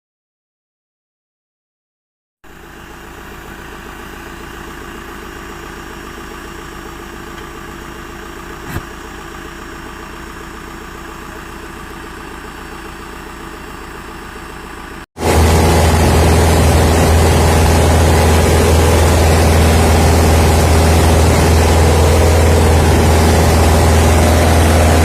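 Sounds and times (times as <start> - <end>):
diesel engine idling: 2.5 - 25.0.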